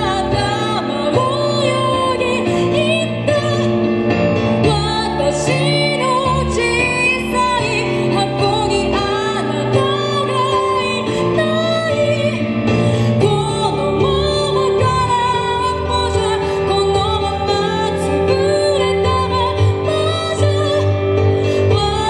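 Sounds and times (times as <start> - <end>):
keyboard chords: 0.0 - 22.0
woman singing: 0.0 - 22.0.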